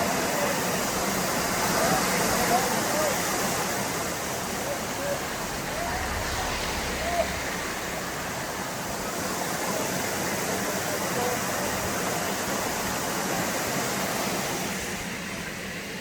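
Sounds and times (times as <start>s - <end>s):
small waterfall rushing: 0.0s - 16.0s.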